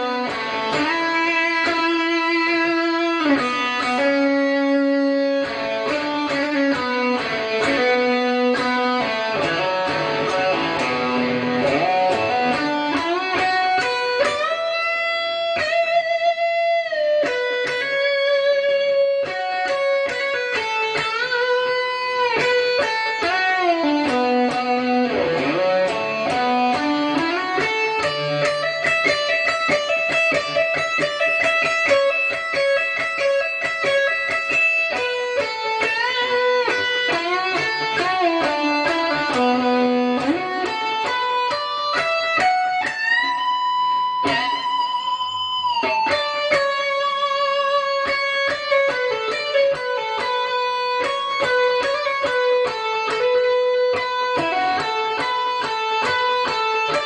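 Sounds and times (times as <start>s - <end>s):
electric guitar lead solo: 0.0s - 57.0s.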